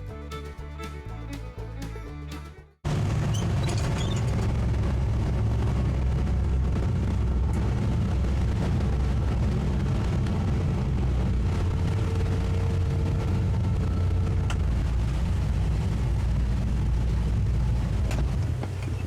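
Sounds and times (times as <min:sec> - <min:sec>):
outboard motors rumbling: 0:00.0 - 0:19.0
wind and water rushing: 0:02.9 - 0:19.0.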